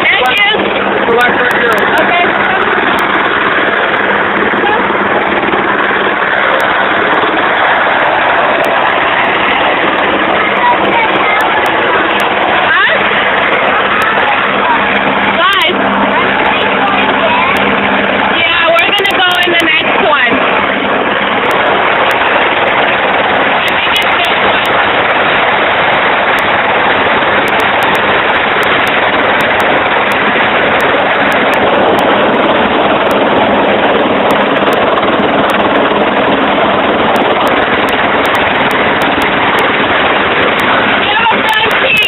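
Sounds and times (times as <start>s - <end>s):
helicopter engine and rotor: 0.0s - 42.0s.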